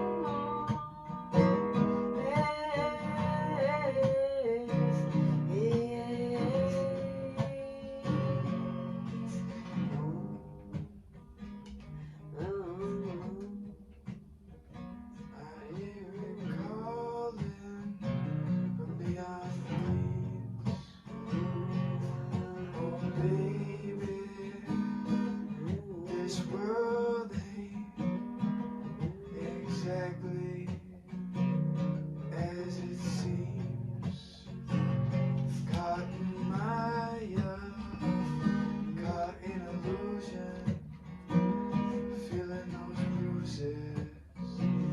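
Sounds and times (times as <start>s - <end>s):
person singing: 0.0s - 10.8s, 12.2s - 13.7s, 15.3s - 28.1s, 28.8s - 31.0s, 35.4s - 40.8s, 41.5s - 44.9s
acoustic guitar strumming: 0.0s - 44.9s.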